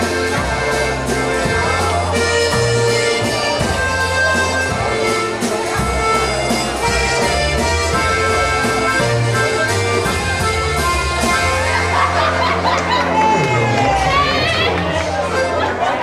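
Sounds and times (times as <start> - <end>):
button accordion: 0.0 - 16.0
polka band playing waltz: 0.0 - 16.0.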